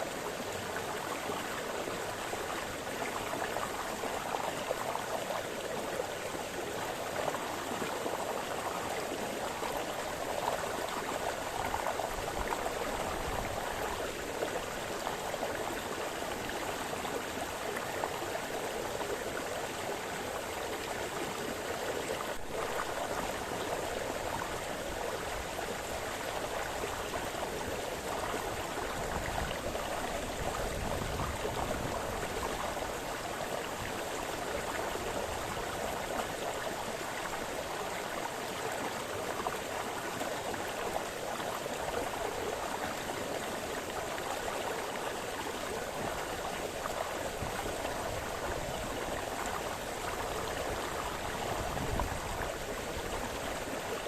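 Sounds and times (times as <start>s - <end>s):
brook burbling over stones: 0.0s - 54.0s.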